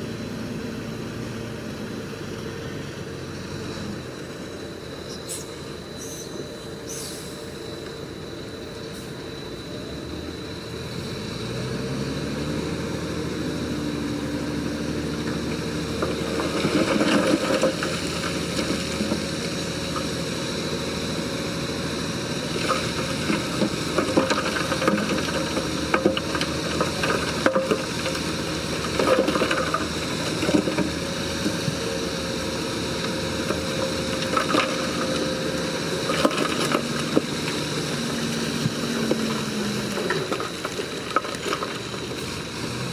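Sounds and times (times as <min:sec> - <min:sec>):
diesel engine revving: 0:00.0 - 0:07.6, 0:08.9 - 0:42.9.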